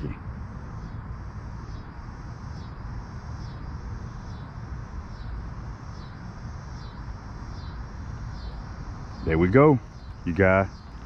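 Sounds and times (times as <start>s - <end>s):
faint high insect chirp: 0.0s - 11.0s
steady low rumble: 0.0s - 11.0s.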